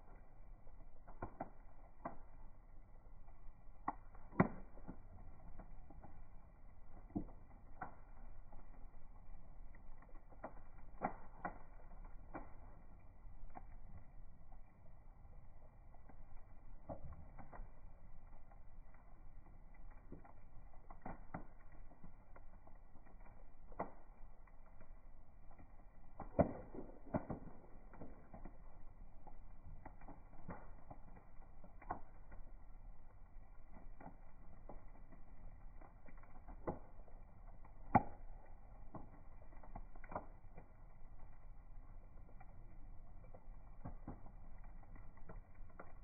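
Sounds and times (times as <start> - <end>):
bonfire crackling: 0.0 - 46.0
burning wood popping: 0.0 - 46.0.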